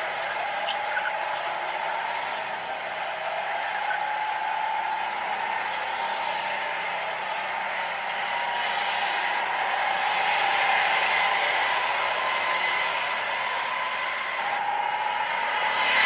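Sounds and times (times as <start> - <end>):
go-kart engines whining: 0.0 - 16.0.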